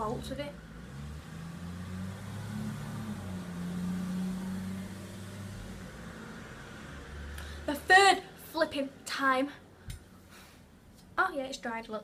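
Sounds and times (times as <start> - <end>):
engine humming: 0.0 - 11.1.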